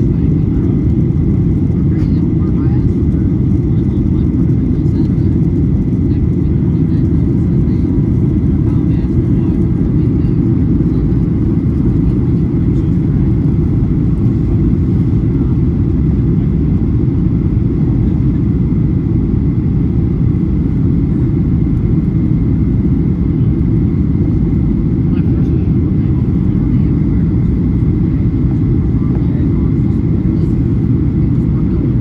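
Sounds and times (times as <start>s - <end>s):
jet engine cabin noise: 0.0s - 32.0s.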